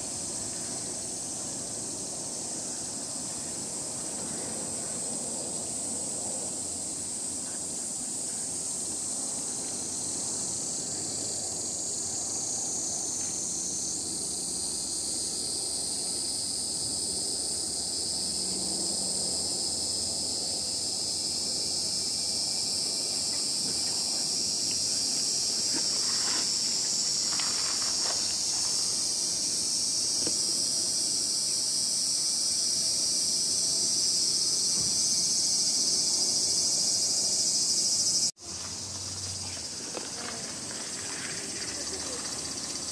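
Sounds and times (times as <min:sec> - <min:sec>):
insects chorus: 0:00.0 - 0:42.9.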